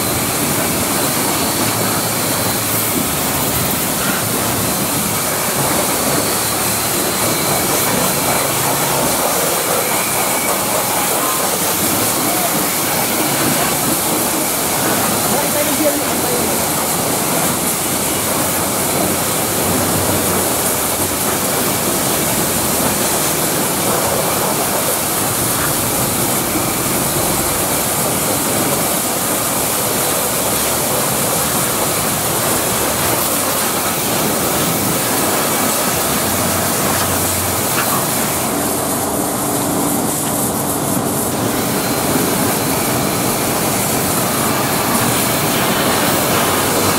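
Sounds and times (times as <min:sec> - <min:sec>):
pressure washer spray hissing: 0:00.0 - 0:46.9
water spattering off wheel: 0:00.0 - 0:46.9.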